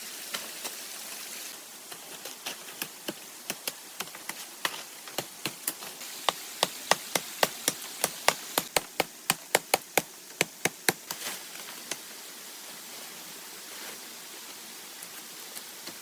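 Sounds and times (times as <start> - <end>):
insects hissing: 0.0 - 16.0.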